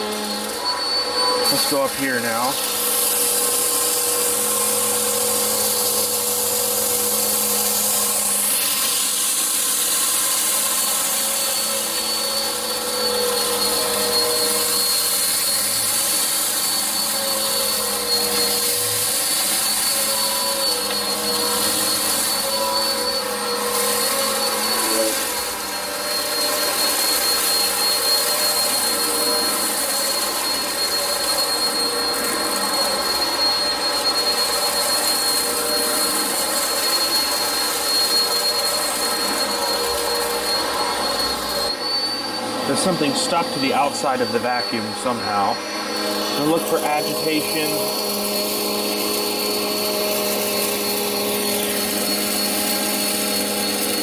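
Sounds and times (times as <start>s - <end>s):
upright vacuum cleaner whining: 0.0s - 54.0s.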